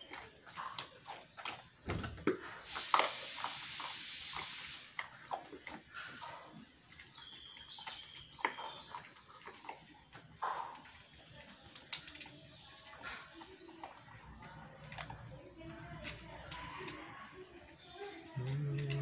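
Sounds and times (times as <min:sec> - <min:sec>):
dog crunching bones: 0:00.0 - 0:04.4, 0:05.0 - 0:19.0.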